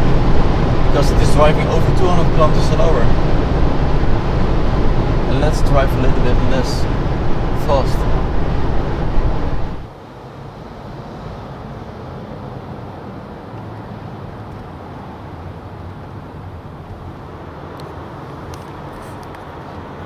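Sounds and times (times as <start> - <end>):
road and wind noise in car: 0.0 - 20.0.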